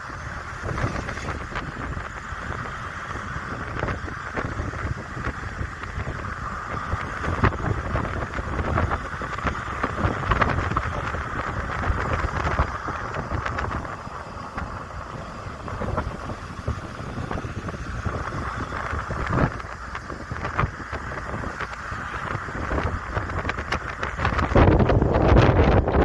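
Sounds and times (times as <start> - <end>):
car road noise: 0.0 - 26.0
wind buffeting microphone: 0.0 - 26.0.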